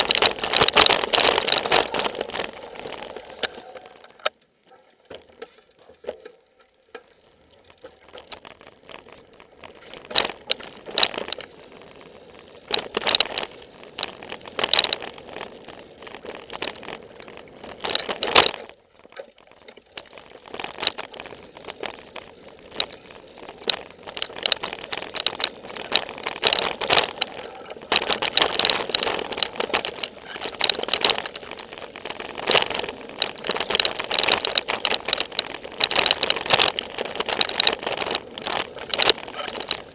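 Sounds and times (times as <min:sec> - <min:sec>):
bike rattling and clattering: 0:00.0 - 0:39.9
tyres crunching on dirt: 0:00.0 - 0:39.9.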